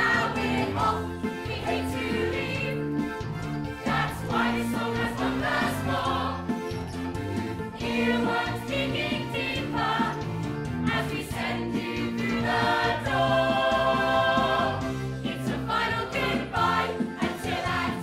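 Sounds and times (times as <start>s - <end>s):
band accompaniment: 0.0s - 18.0s.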